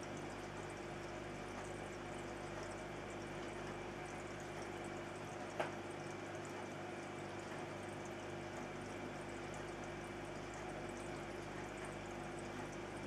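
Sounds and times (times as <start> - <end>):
aquarium water bubbling: 0.0 - 13.0.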